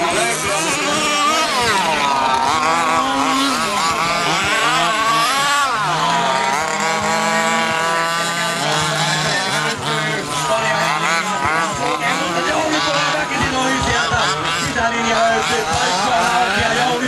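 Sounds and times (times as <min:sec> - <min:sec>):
small engines revving: 0:00.0 - 0:17.0.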